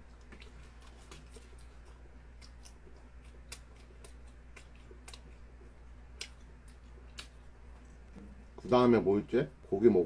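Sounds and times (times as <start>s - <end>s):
person chewing food: 0.0s - 8.7s.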